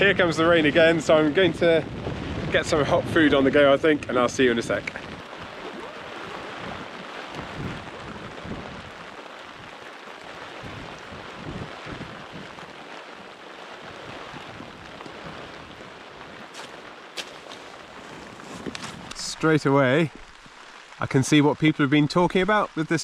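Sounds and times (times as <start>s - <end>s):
wind buffeting microphone: 0.0s - 20.2s
rain hissing: 0.0s - 23.0s.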